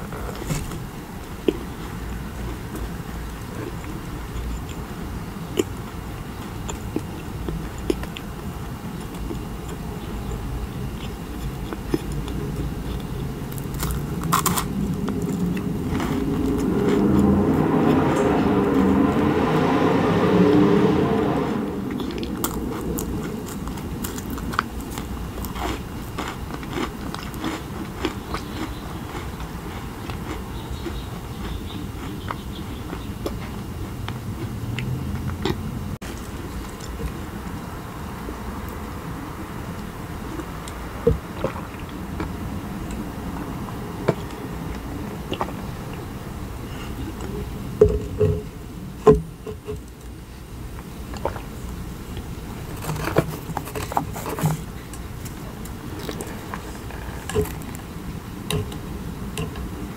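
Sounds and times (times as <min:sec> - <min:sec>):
crunchy chewing: 0:00.0 - 0:48.5, 0:50.8 - 0:59.9.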